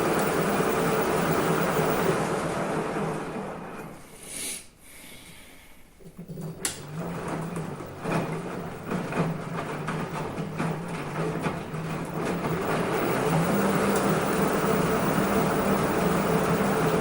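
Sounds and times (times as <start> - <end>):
washing machine running: 0.0 - 4.2, 6.2 - 17.0.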